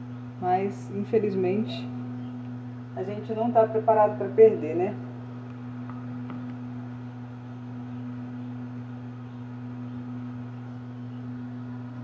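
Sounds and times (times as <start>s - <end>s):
egg incubator humming: 0.0s - 12.0s.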